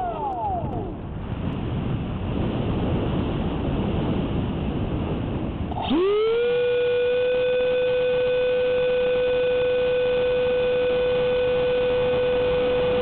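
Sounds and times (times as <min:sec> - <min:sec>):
electric ducted fan whining: 0:00.0 - 0:13.0.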